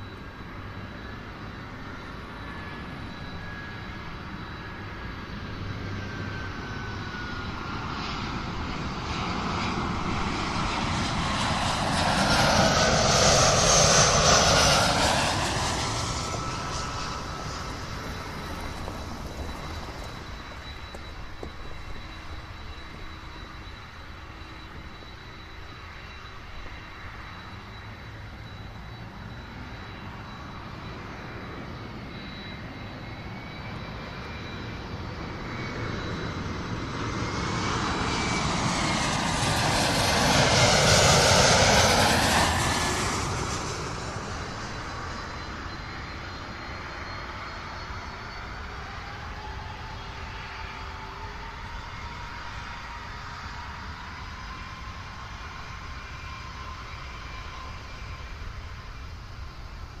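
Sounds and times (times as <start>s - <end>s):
airliner flying over: 0.0s - 60.0s.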